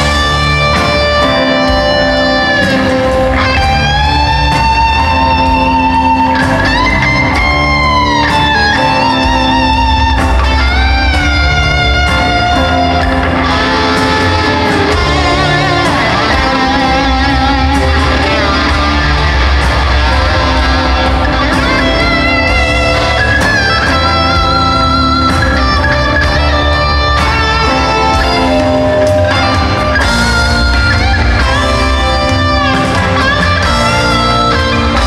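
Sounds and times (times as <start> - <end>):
lead electric guitar bending notes: 0.0 - 35.0
live rock band playing: 0.0 - 35.0.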